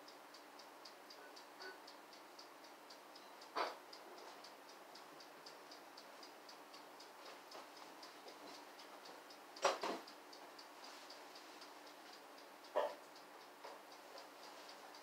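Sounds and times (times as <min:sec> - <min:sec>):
clockwork timer ticking: 0:00.0 - 0:15.0.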